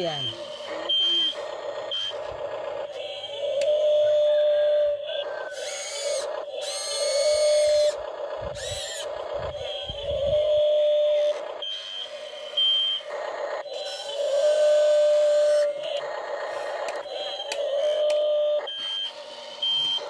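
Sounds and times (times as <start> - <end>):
toy excavator motors whining: 0.0 - 20.0.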